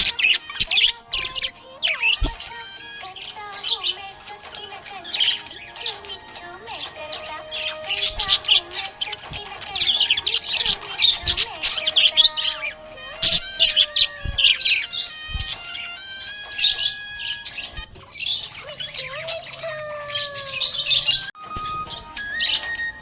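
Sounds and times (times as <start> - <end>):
simple melody background music: 0.0 - 18.5, 20.7 - 23.0
budgerigar chirping and warbling: 0.0 - 23.0.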